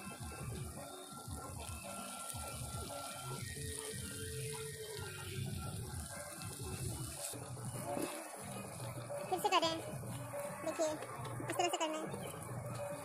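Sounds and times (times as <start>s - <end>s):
fish sizzling in hot oil: 0.1s - 13.0s.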